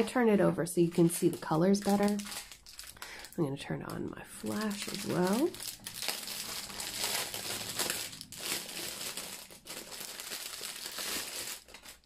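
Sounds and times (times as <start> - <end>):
plastic wrapping crinkling: 0.8 - 12.0.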